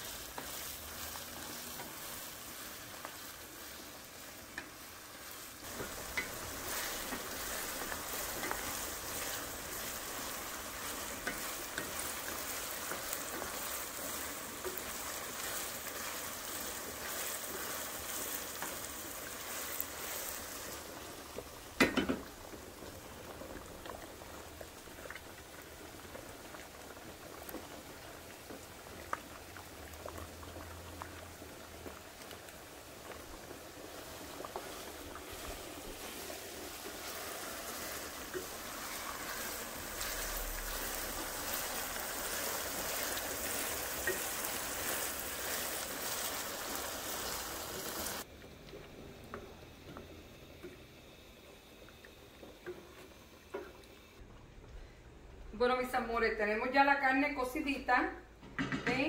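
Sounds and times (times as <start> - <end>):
meat and onion sizzling in skillet: 0.0 - 48.4
pot of water boiling: 0.0 - 59.0.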